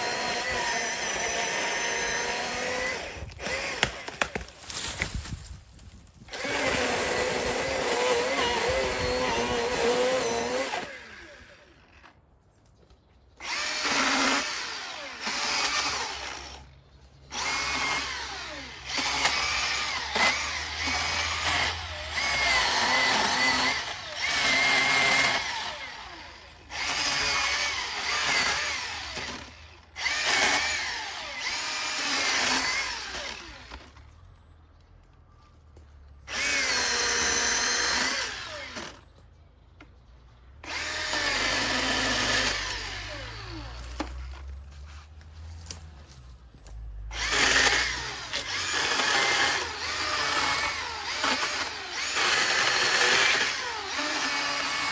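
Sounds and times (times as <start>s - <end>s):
electric chainsaw cutting wood: 0.0s - 4.6s, 6.3s - 12.1s, 13.4s - 16.7s, 17.3s - 34.0s, 36.3s - 39.1s, 40.6s - 44.5s, 47.1s - 54.9s.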